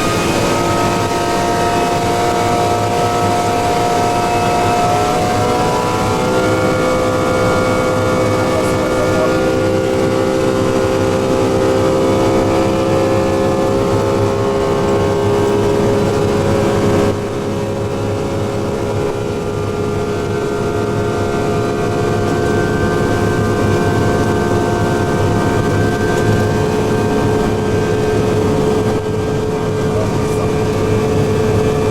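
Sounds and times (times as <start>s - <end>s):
jet engine running at high power: 0.0s - 31.9s
whining fan tones: 0.0s - 31.9s.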